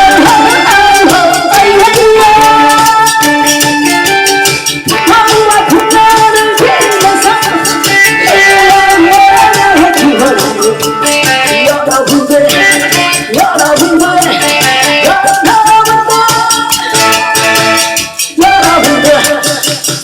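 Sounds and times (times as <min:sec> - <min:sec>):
woman singing: 0:00.0 - 0:04.1, 0:04.8 - 0:20.0
fast rattling beat: 0:00.0 - 0:20.0.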